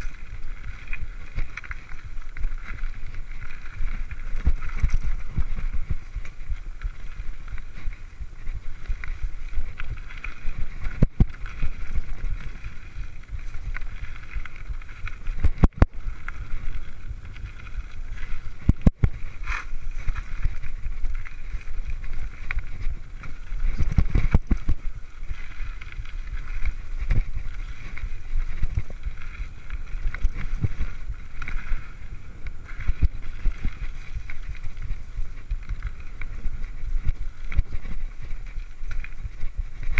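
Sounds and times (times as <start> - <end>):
mountain bike rattling on dirt: 0.0 - 39.9
wind buffeting microphone: 0.0 - 39.9.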